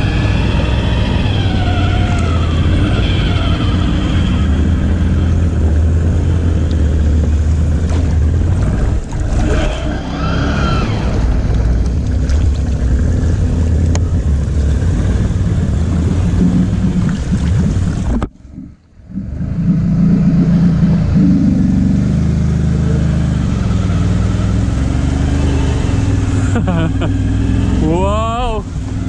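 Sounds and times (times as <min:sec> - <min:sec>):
atv engine revving through mud: 0:00.0 - 0:18.1, 0:19.1 - 0:29.0.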